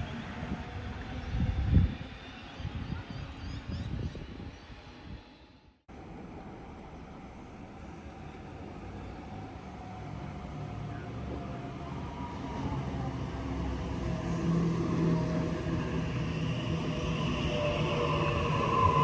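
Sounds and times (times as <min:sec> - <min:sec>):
passenger train running: 0:00.0 - 0:19.0.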